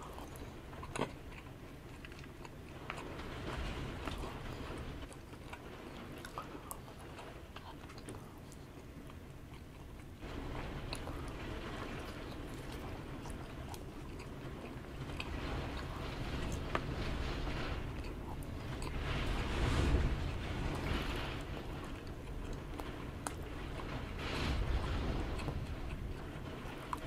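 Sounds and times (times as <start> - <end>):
chewing: 0.0 - 10.2, 10.9 - 19.8, 21.8 - 27.0
wind and rain rushing: 0.0 - 27.0.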